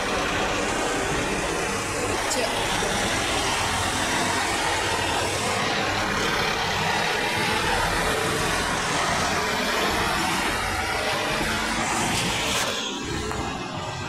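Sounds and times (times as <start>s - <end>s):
diesel locomotive engine: 0.0s - 14.0s.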